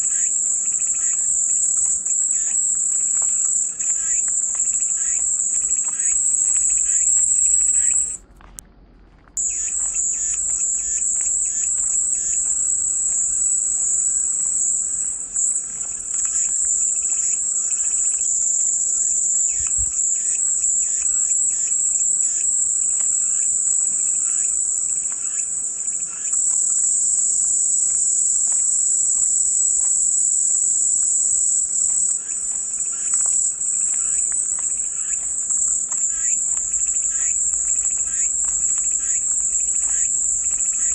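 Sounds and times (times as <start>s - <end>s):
cicadas singing: 0.0s - 8.2s, 9.4s - 40.9s.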